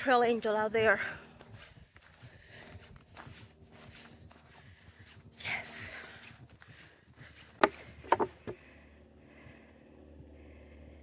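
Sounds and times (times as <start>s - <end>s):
faint footsteps on a trail: 0.0s - 11.0s.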